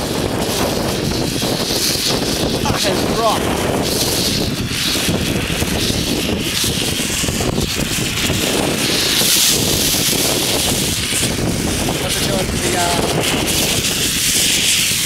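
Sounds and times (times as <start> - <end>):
burning flare hissing: 0.0 - 15.0
wind buffeting microphone: 0.0 - 15.0.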